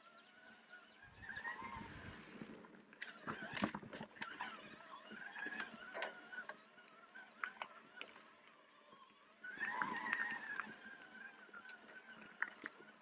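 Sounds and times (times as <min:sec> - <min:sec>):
bike ticks and rattles: 0:00.0 - 0:13.0.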